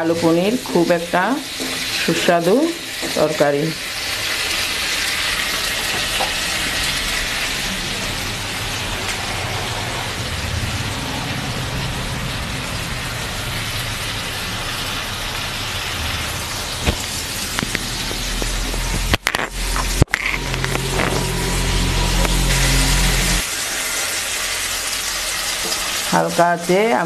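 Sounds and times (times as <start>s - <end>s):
potatoes sizzling in oil: 0.0s - 9.4s, 12.7s - 27.0s.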